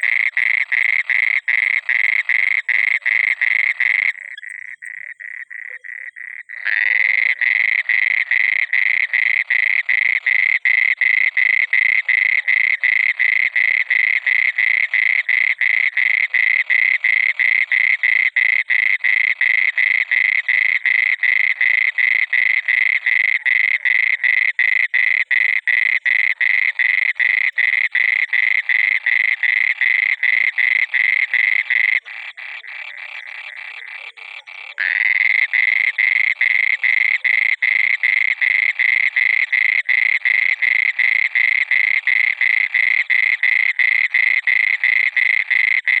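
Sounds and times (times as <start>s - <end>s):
frog croaking: 0.0s - 46.0s.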